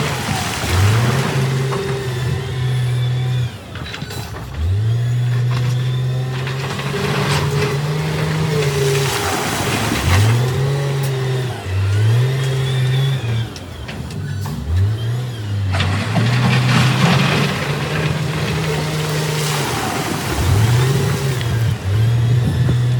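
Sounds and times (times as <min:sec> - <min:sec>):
heavy diesel engine revving: 0:00.0 - 0:22.9.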